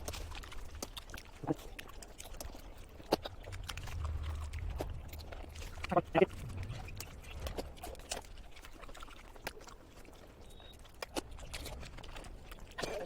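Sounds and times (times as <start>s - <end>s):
eating clicks and smacks: 0.0s - 13.0s
faint low hum: 0.0s - 13.0s.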